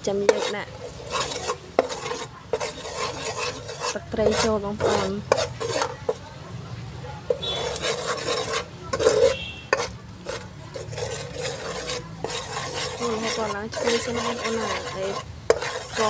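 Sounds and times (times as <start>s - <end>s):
spatula scraping a pan: 0.0s - 6.4s, 7.2s - 16.0s
light sizzle: 0.0s - 16.0s.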